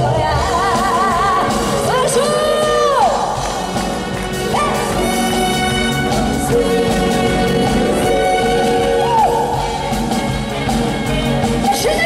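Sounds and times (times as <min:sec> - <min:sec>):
upbeat trot song by live band: 0:00.0 - 0:12.0.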